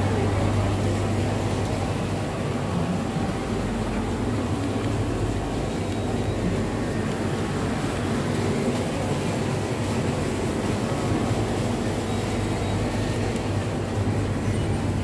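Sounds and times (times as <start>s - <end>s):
machinery hum and rumble: 0.0s - 15.0s.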